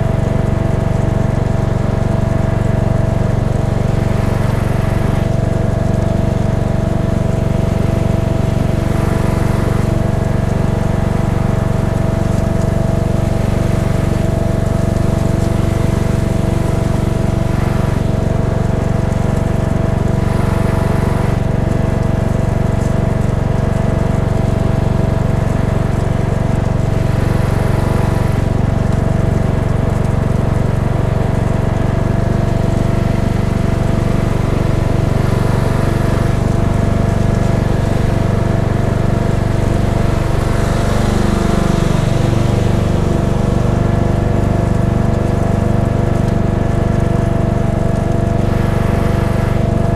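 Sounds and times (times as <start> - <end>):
riding mower engine running: 0.0 - 49.9.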